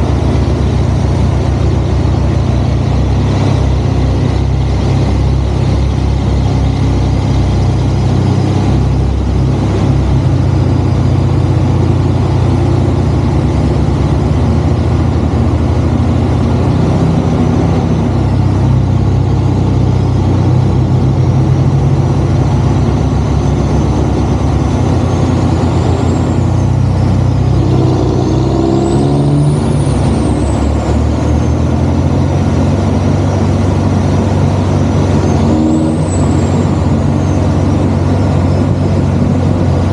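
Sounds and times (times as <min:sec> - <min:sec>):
high thin whine gliding: 0:00.0 - 0:39.9
truck diesel engine running: 0:00.0 - 0:39.9.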